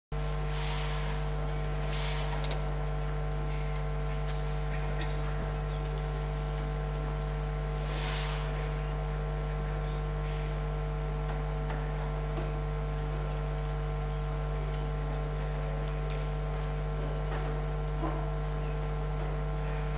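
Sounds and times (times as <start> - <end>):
electrical mains hum: 0.1 - 19.9.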